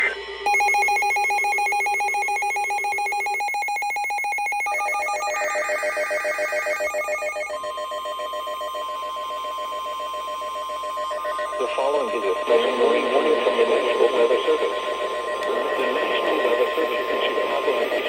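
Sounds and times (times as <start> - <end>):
pulsing multi-tone alarm: 0.0 - 18.0.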